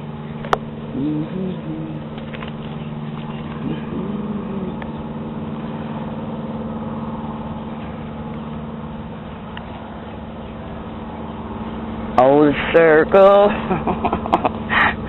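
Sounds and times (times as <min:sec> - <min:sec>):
low motor hum: 0:00.0 - 0:15.0
low wavering sounds: 0:00.0 - 0:15.0.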